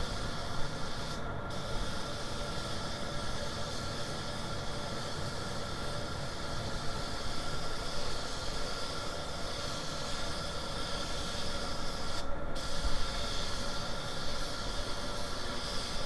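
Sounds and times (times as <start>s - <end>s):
air spray gun hissing: 0.0s - 16.0s.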